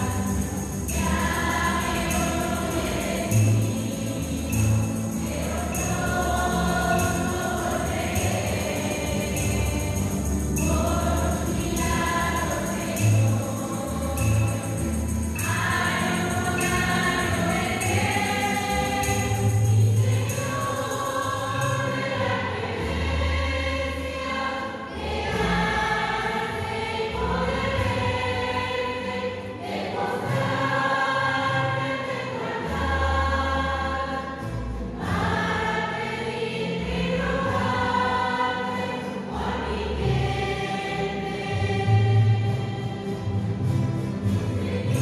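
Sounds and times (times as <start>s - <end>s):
choir singing a hymn: 0.0s - 45.0s.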